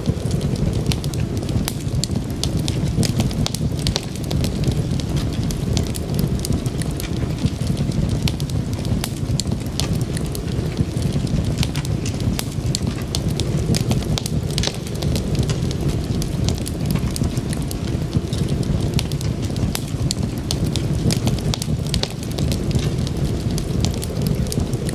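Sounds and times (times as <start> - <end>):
low rumble of flames: 0.0 - 24.9
wood fire crackling and popping: 0.0 - 24.9.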